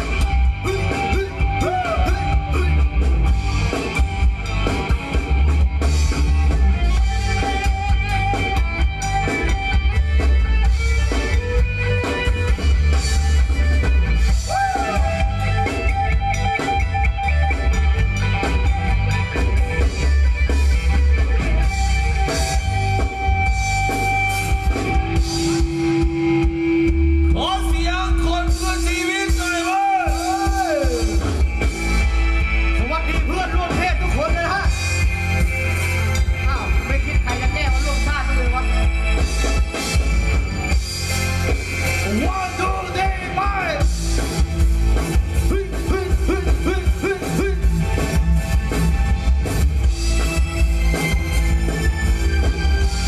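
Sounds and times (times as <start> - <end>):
heavy bass beat and drum kit: 0.0 - 53.0
live band music through pa: 0.0 - 53.0.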